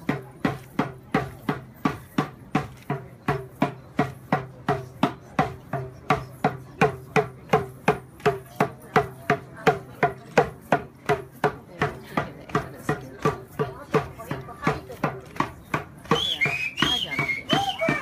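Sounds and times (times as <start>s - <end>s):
drum beating steadily: 0.0s - 18.0s.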